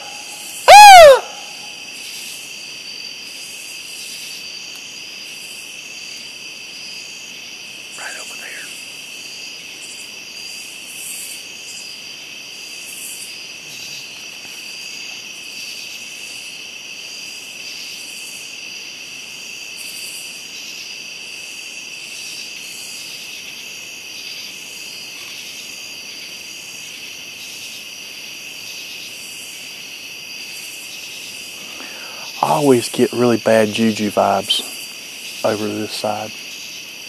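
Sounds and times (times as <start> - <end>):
crickets trilling: 0.0 - 37.0
high-pitched pulsing insect call: 0.0 - 37.0.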